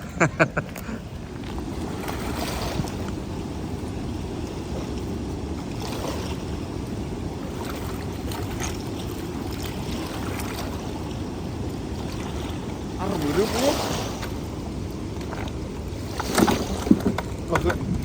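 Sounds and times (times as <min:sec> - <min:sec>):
rushing water: 0:00.0 - 0:18.0
wind: 0:00.0 - 0:18.0.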